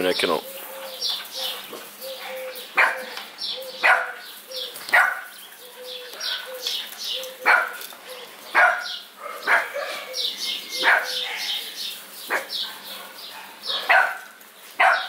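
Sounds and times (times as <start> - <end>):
dogs barking: 0.4 - 15.0.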